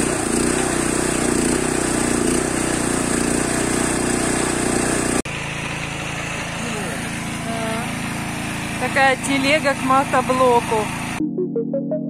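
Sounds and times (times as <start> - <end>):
tractor petrol engine running: 0.0 - 11.2.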